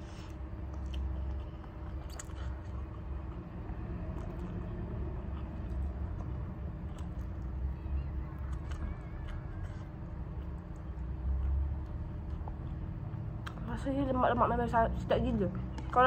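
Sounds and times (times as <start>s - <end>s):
person chewing: 0.0s - 13.7s
steady low rumble: 0.0s - 16.0s.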